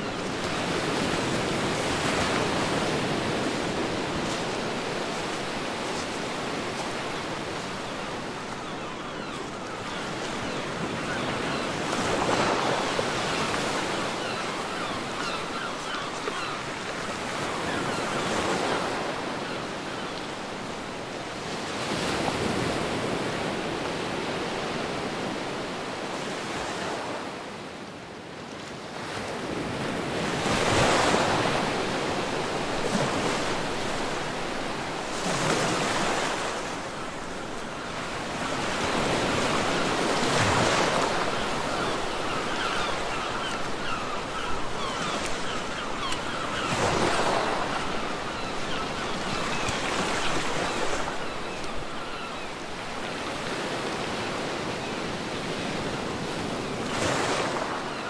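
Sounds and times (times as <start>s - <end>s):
ocean waves breaking: 0.0s - 27.3s, 28.8s - 58.0s
wind: 0.0s - 58.0s.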